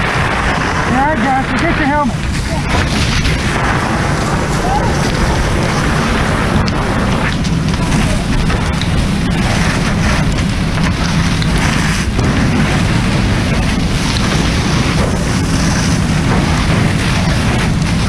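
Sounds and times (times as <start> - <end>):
fire hose water rushing: 0.0 - 18.0
low rumble: 0.0 - 18.0.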